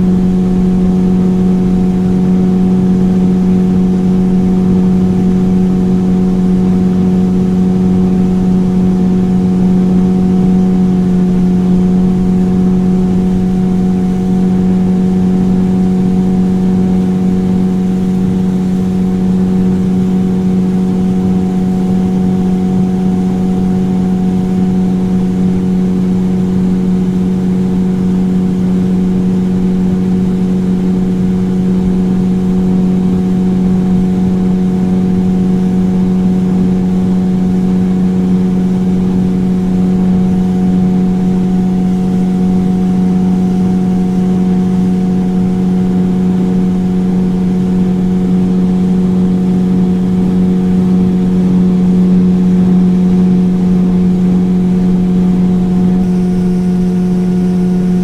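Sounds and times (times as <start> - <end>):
motorboat engine droning: 0.0 - 58.0.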